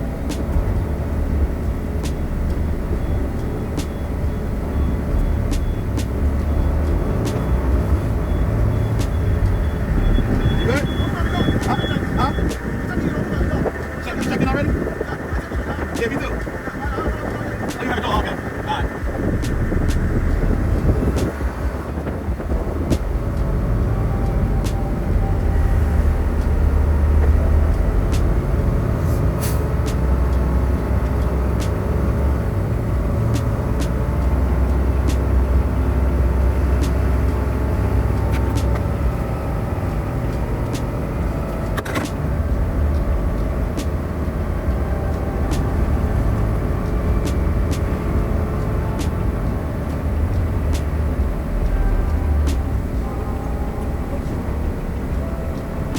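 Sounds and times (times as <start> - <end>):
truck engine rumble: 0.0 - 55.9.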